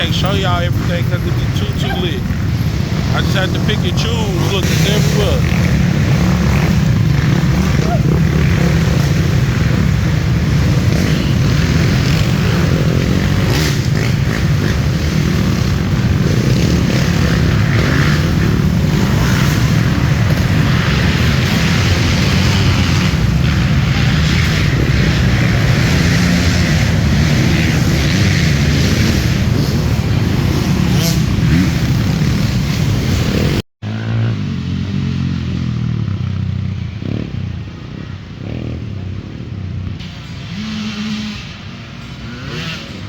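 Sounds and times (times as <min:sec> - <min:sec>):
dirt bike engines racing: 0:00.0 - 0:43.0.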